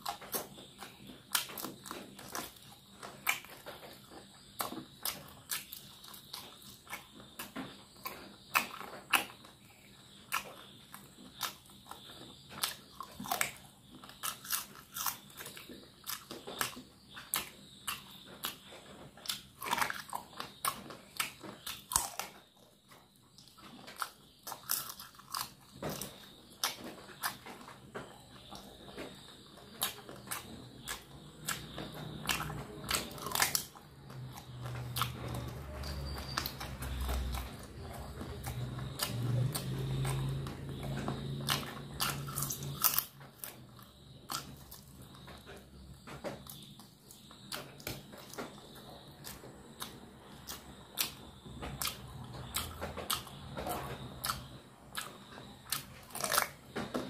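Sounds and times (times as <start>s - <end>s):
person chewing and crunching bones: 0.0s - 57.0s.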